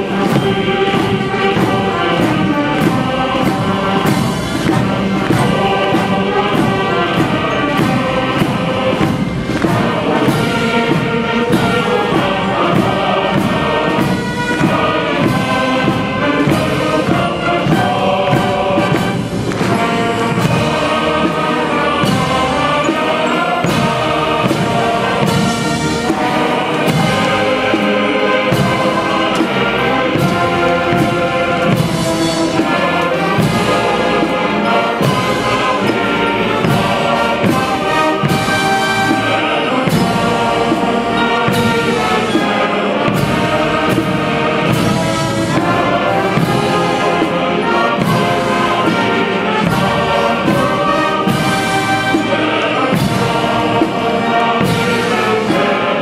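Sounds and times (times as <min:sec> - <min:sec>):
military brass bands playing: 0:00.0 - 0:56.0
steady drum beat: 0:00.0 - 0:56.0.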